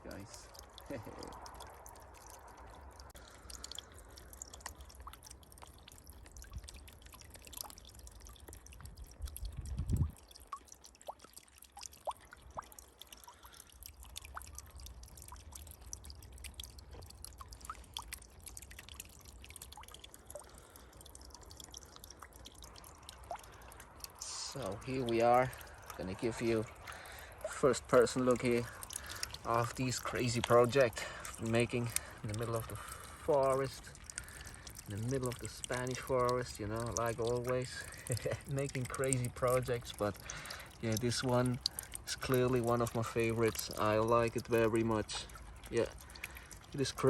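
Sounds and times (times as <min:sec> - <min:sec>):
small waterfall trickling into pond: 0:00.0 - 0:47.0.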